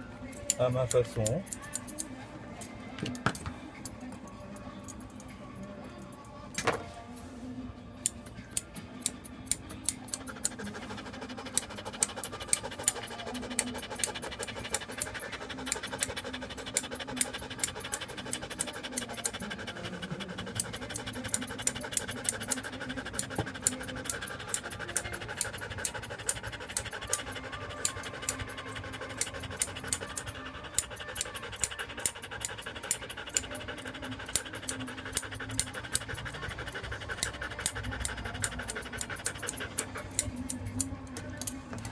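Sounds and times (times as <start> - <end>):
dog panting: 0.0 - 3.2, 8.4 - 41.9
scissors snipping hair: 0.2 - 5.4, 8.0 - 41.9.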